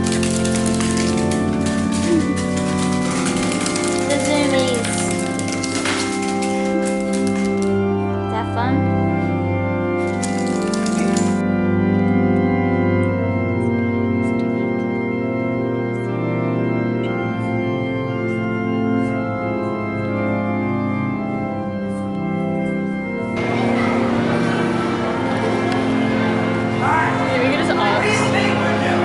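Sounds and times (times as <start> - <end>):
electric organ chords: 0.0 - 29.0.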